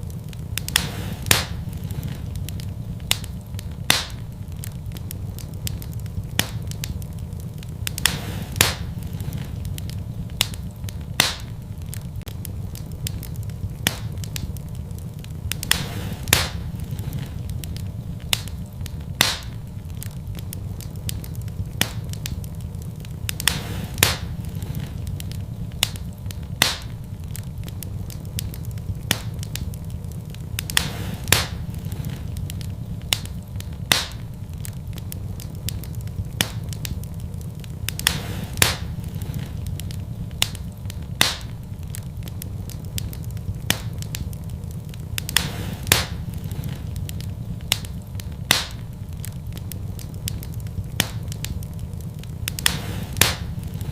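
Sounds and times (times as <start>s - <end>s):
fire rumbling: 0.0s - 53.9s
wood fire crackling and popping: 0.0s - 53.9s.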